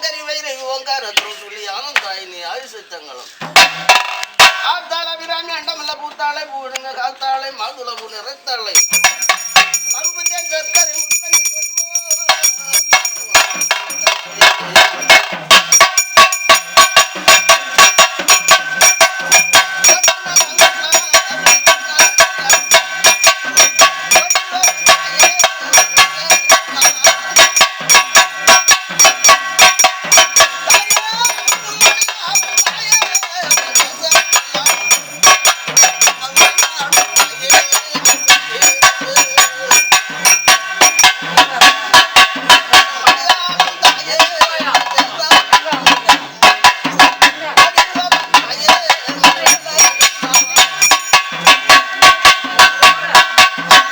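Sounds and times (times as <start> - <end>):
drums beaten fast with sticks: 3.4 - 5.9, 8.7 - 53.9
metallic ringing: 8.7 - 53.9.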